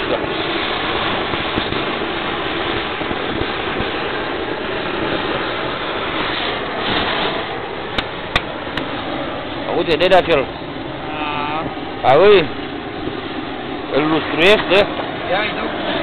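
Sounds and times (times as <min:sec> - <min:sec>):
gas torch hissing: 0:00.0 - 0:16.0.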